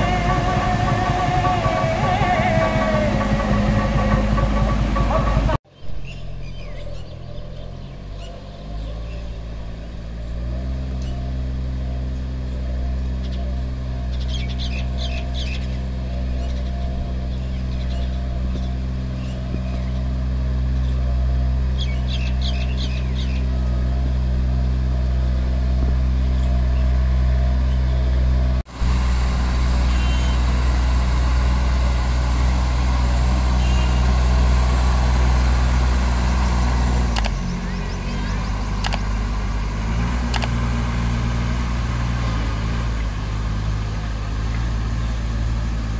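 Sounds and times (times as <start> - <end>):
sprayer engine running: 0.0 - 5.6, 8.7 - 45.9
birds chirping: 0.0 - 45.9
tractor engine running: 0.0 - 45.9.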